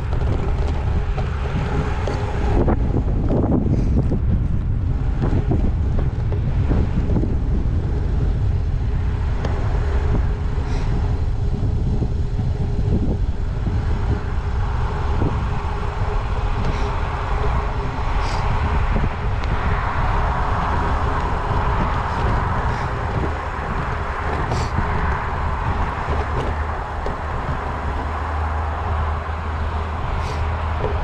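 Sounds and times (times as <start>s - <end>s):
tyre and road noise: 0.0s - 31.0s
wind rumbling on microphone: 0.0s - 31.0s.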